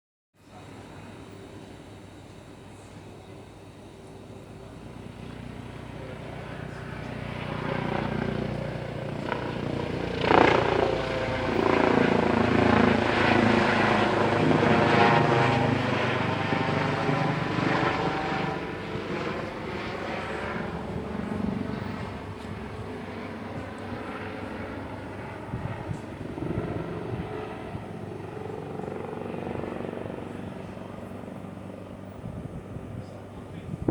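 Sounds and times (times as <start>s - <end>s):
helicopter flying overhead: 0.4s - 33.9s.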